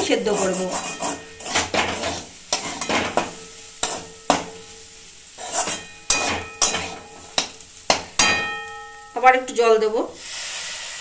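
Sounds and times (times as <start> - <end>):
spatula scraping metal pan: 0.0 - 9.1.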